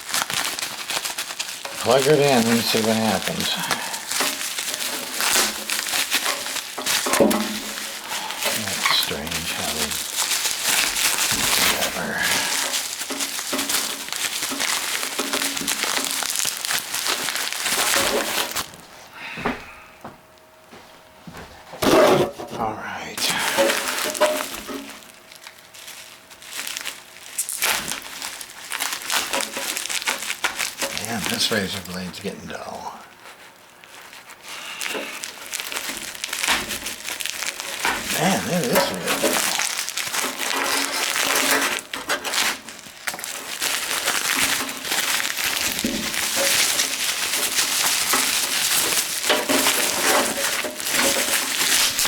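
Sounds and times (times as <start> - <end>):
packaging crinkling: 0.0 - 18.9, 22.8 - 52.0.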